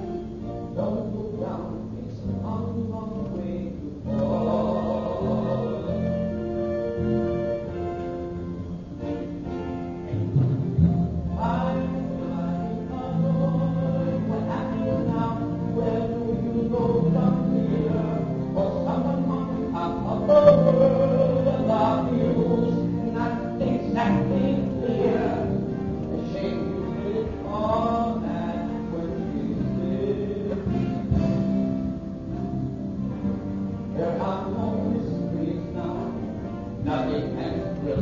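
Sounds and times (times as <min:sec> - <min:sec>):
instrumental accompaniment: 0:00.0 - 0:38.0
people singing a melody: 0:00.8 - 0:07.4, 0:10.3 - 0:31.4, 0:34.0 - 0:38.0.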